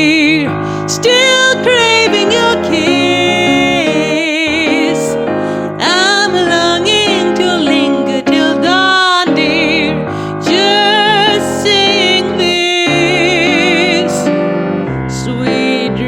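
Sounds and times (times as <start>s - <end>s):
person singing with vibrato: 0.0s - 16.0s
piano accompaniment: 0.0s - 16.0s.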